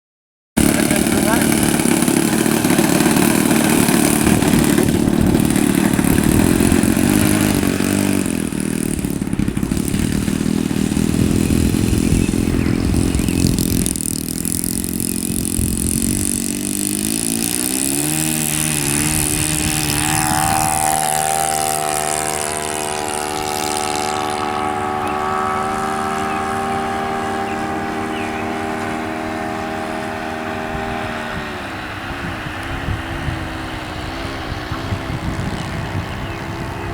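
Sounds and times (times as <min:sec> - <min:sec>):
model airplane engine running: 0:00.6 - 0:36.9.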